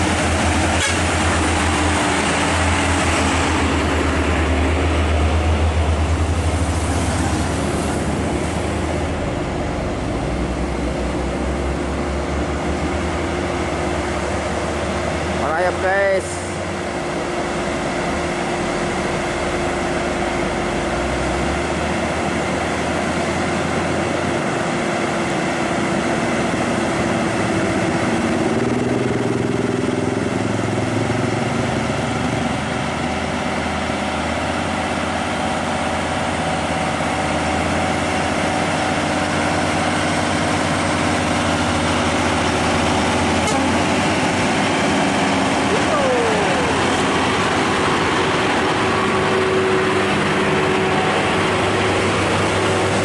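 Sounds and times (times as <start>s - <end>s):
truck diesel engine pulling: 0.0s - 53.0s.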